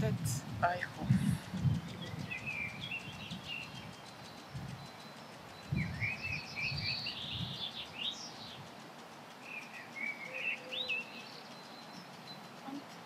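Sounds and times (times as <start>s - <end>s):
low dull rumbling and rustling: 0.0s - 13.0s
small birds chirping: 0.0s - 13.0s.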